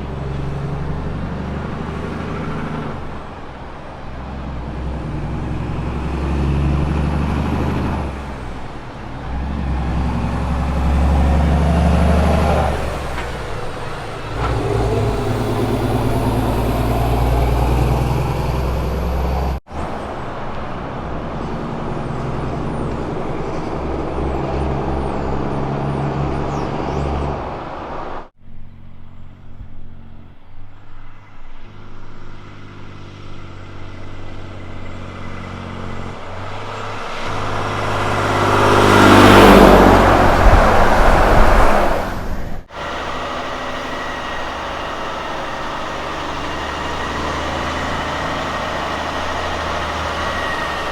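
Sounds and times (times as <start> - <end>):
heavy trucks driving by: 0.0 - 50.9.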